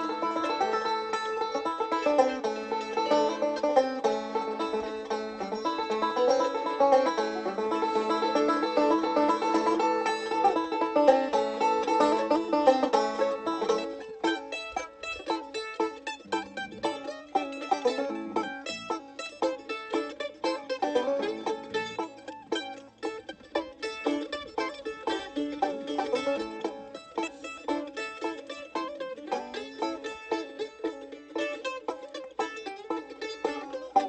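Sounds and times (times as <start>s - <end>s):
bluegrass band playing: 0.0s - 34.0s
rolling banjo picking: 0.0s - 34.0s.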